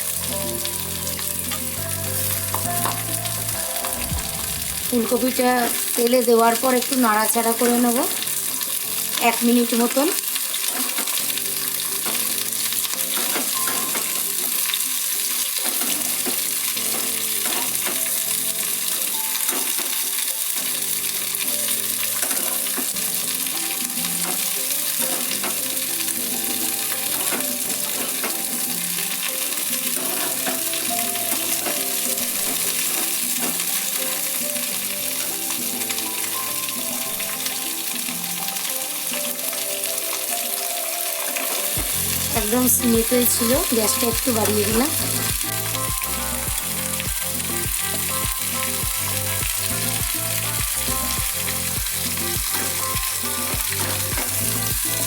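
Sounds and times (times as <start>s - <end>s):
cauliflower sizzling in hot oil: 0.0s - 55.0s.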